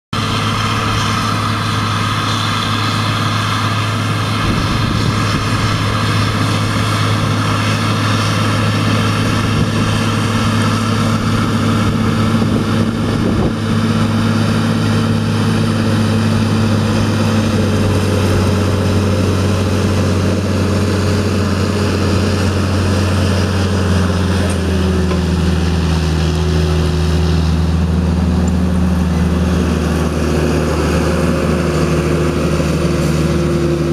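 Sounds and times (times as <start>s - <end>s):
tractor diesel engine under load: 0.1s - 33.9s.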